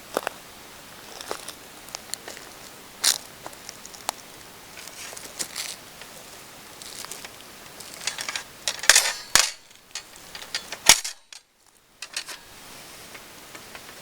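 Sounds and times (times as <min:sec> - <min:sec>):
faint hiss: 0:00.0 - 0:14.0
wood fire crackling: 0:01.0 - 0:14.0.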